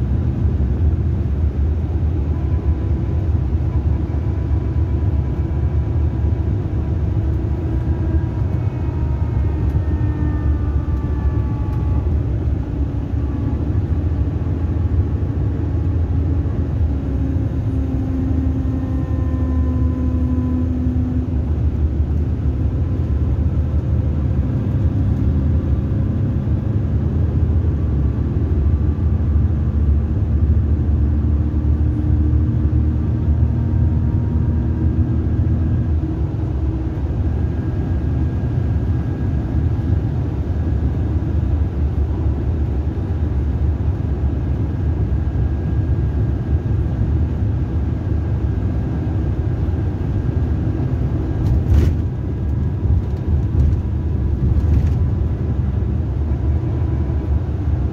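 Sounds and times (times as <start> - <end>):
coach engine and road drone: 0.0 - 57.9
drivetrain whine: 0.0 - 57.9.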